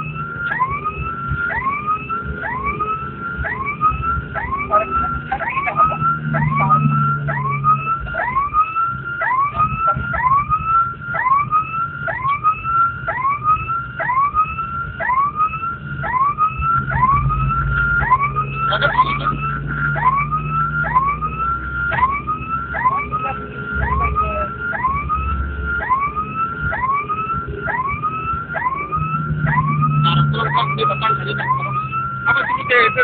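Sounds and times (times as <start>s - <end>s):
emergency vehicle siren sweeping: 0.0s - 33.0s
road noise: 0.0s - 33.0s
vehicle engine hum: 0.0s - 33.0s.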